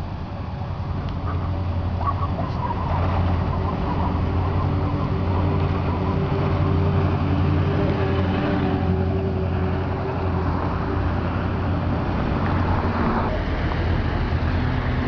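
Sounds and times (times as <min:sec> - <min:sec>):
bus engine approaching: 0:00.0 - 0:15.0.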